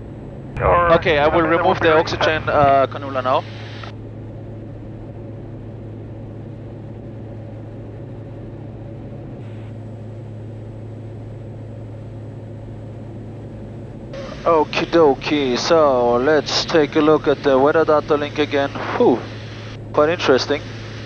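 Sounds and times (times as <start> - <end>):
aircraft engines and propellers droning: 0.0 - 21.0.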